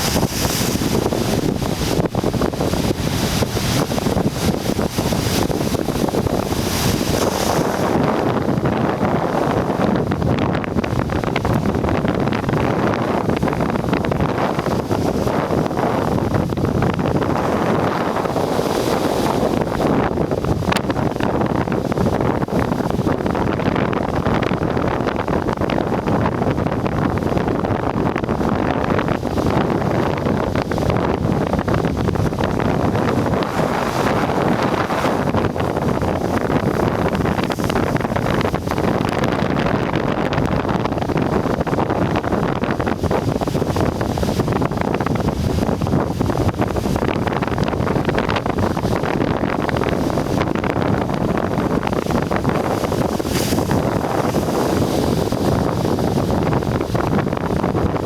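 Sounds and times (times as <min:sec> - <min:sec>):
surf crashing on rocks: 0:00.0 - 0:58.0
wind buffeting microphone: 0:00.0 - 0:58.0.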